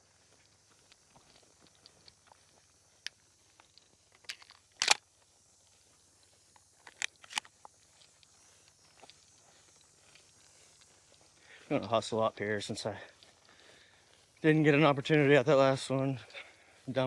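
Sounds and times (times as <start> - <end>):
footsteps crunching dry vegetation: 0.0 - 17.0.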